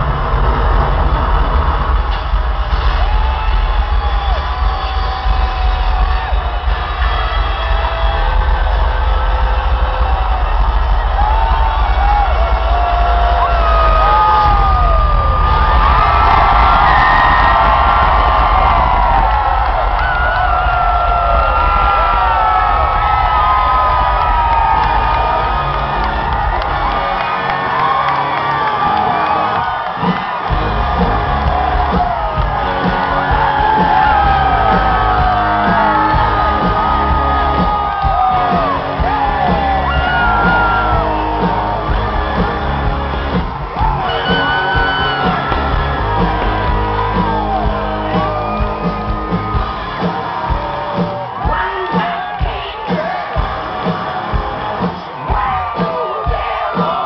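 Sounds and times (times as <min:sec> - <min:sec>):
audience shouting: 0:00.0 - 0:57.0
live rock band: 0:00.0 - 0:57.0.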